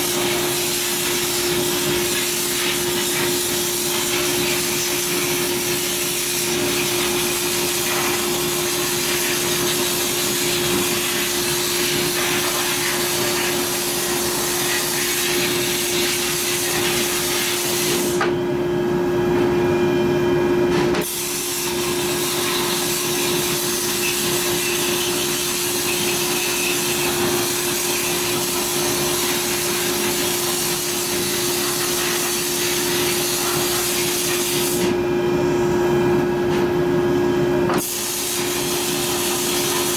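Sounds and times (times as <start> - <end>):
air gun hissing: 0.0 - 18.2, 21.1 - 34.9, 37.8 - 39.9.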